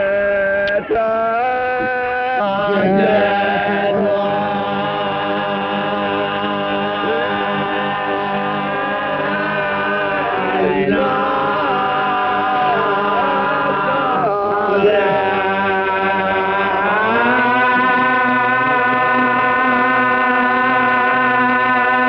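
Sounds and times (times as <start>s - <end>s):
choir singing a slow chant: 0.8s - 22.0s.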